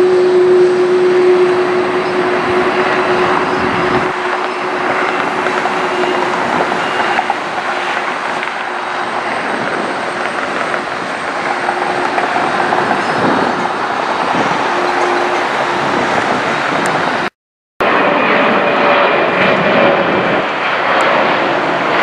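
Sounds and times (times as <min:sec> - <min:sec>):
faint engine whine: 0:00.0 - 0:22.0
jet engines roaring: 0:00.0 - 0:22.0.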